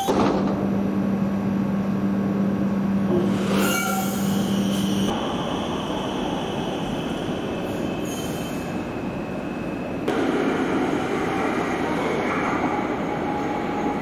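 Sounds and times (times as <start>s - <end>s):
metro train running hum: 0.0s - 14.0s.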